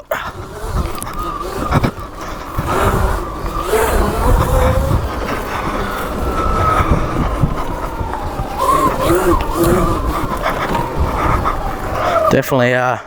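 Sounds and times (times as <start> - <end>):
electric motor whine: 0.0 - 12.4
tyres and suspension rumble: 0.0 - 13.0
wind buffeting: 0.0 - 13.0.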